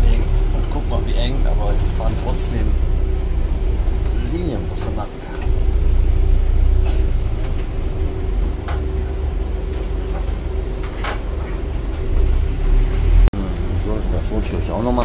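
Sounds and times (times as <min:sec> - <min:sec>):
bus engine rumble and whine: 0:00.0 - 0:15.0.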